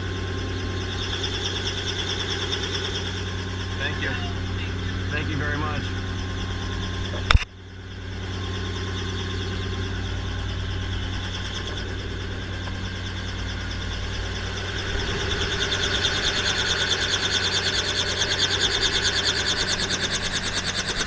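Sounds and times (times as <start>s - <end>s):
helicopter engine and rotor idling: 0.0s - 21.0s.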